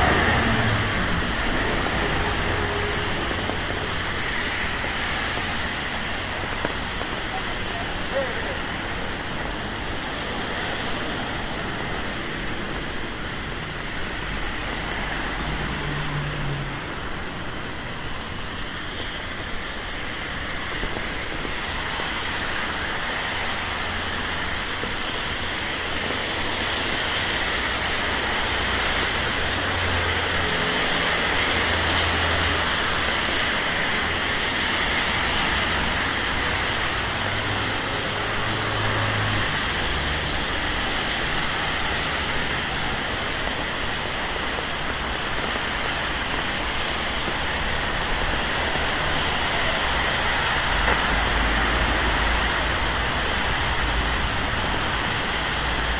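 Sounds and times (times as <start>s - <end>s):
vehicle engines passing: 0.0s - 19.1s, 25.6s - 55.9s
rain and tyres on wet road: 0.0s - 55.9s.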